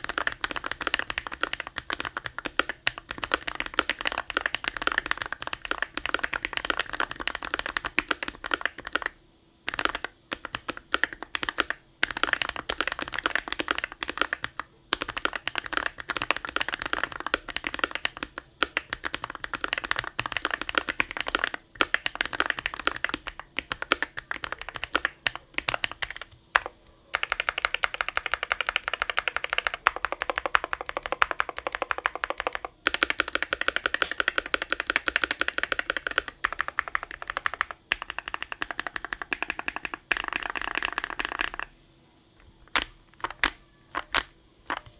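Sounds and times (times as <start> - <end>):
mechanical keyboard typing: 0.0 - 41.7, 42.4 - 44.9.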